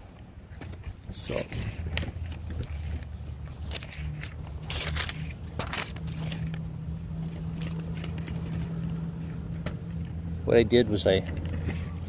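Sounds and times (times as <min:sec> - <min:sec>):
paper rustling and crinkling: 0:00.6 - 0:10.2, 0:11.0 - 0:12.0
vehicle engine idling: 0:01.1 - 0:12.0.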